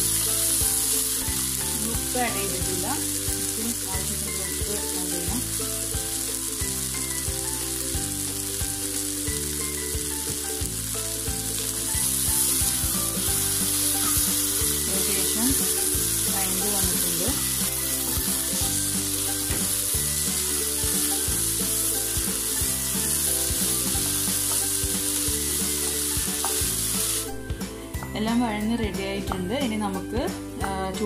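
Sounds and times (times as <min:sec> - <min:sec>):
vegetables sizzling in oil: 0:00.0 - 0:27.7.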